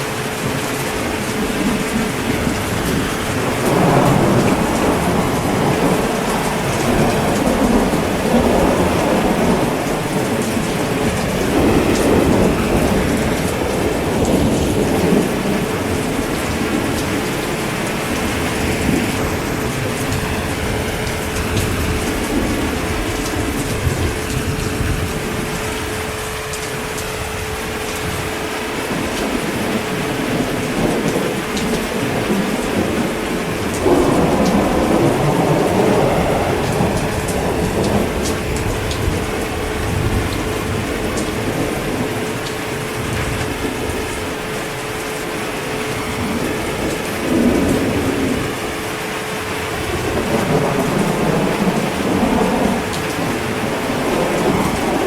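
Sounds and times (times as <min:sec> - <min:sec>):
heavy rain: 0:00.0 - 0:55.0
thunder rumbling: 0:00.0 - 0:55.0.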